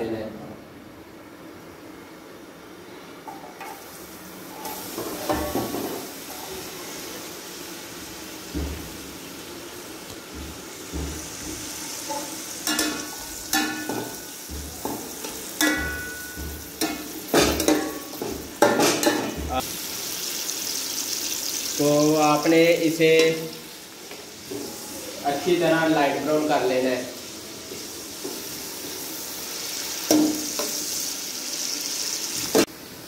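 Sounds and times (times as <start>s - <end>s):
onions sizzling in hot oil: 3.7s - 33.0s.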